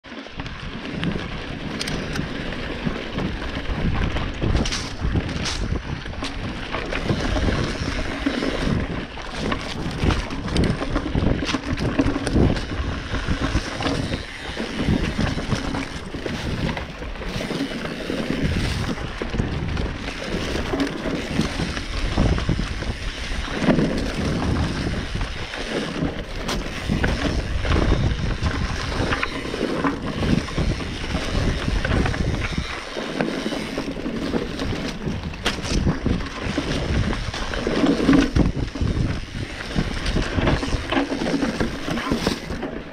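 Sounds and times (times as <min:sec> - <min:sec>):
tyres rolling on dirt trail: 0:00.0 - 0:42.9
bike knocking and rattling: 0:00.1 - 0:42.9
wind buffeting microphone: 0:00.4 - 0:42.9.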